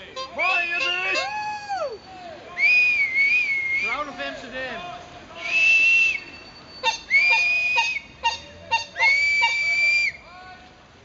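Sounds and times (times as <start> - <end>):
whistle toots and blasts: 0.2 - 4.1, 5.4 - 10.3.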